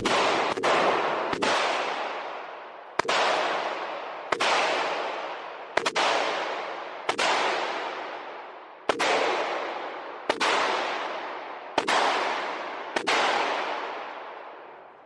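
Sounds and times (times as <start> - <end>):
gunshots with echo: 0.0 - 14.8.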